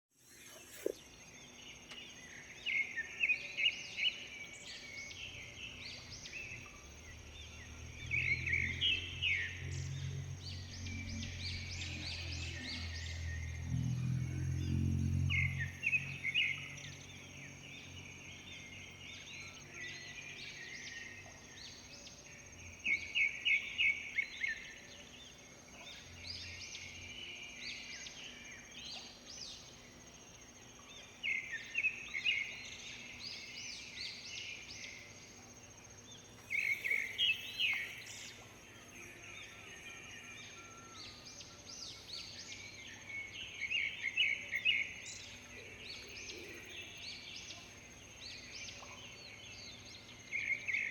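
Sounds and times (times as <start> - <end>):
birds singing: 0.2 - 50.9.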